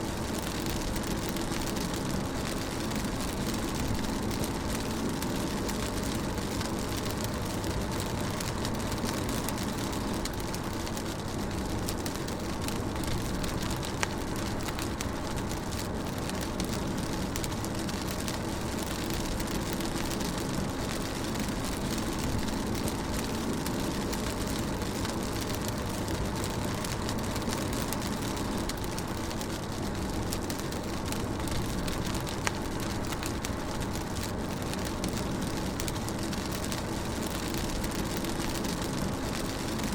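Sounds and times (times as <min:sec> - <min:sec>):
rain on a car: 0:00.0 - 0:39.9
sharp raindrop ticks: 0:00.0 - 0:39.9.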